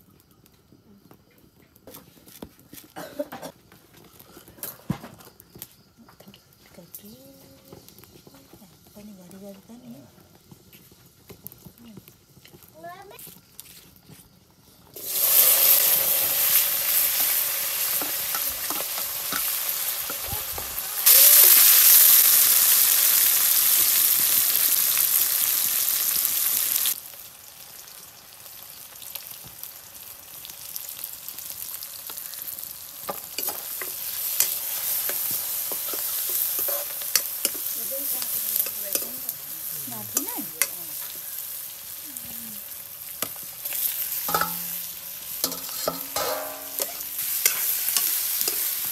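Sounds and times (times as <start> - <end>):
vegetables sizzling in hot oil: 5.4 - 48.9.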